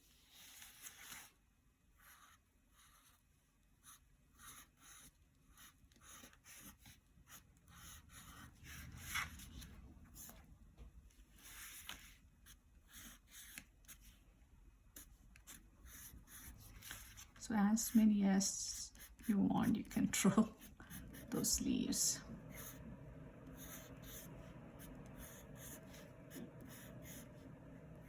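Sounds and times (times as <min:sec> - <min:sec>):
pencil scratching on paper: 0:02.0 - 0:09.4, 0:11.4 - 0:14.2, 0:14.9 - 0:28.0.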